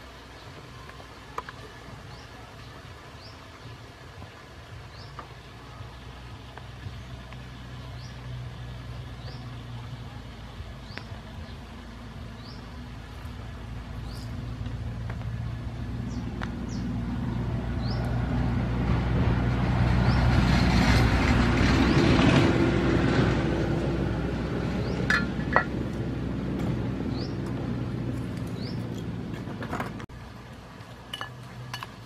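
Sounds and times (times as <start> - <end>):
passing vehicle engine droning: 5.0 - 30.7.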